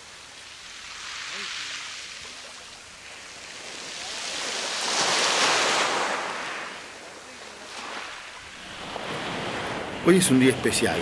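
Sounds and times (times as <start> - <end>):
whale surfacing water rush: 0.4 - 9.9.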